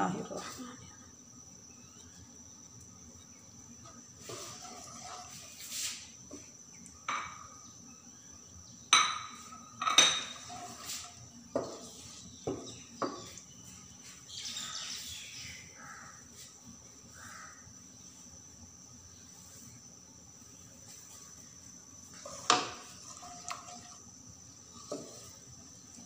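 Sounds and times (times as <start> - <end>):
seeds sizzling in hot oil: 1.6 - 26.0.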